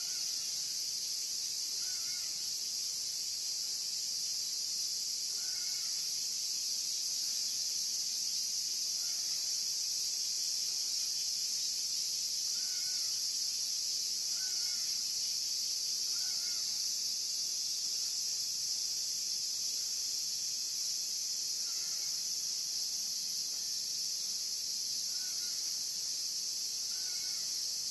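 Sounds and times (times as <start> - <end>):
insect chorus drone: 0.0 - 27.9.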